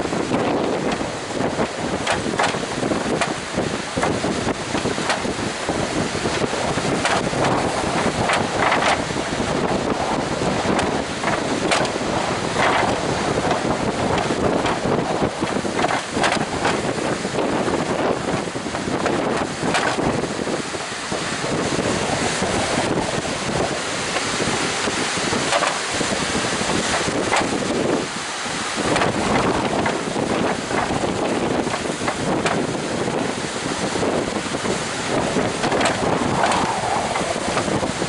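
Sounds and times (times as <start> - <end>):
heavy surf: 0.0 - 38.0
strong wind buffeting microphone: 0.0 - 38.0.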